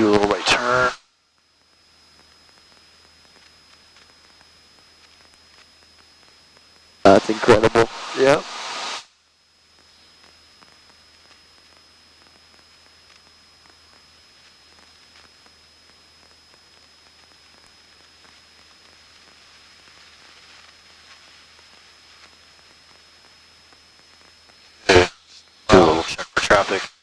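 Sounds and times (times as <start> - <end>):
thin high-pitched whine: 0.0 - 26.8
faint steady hiss: 0.0 - 27.0.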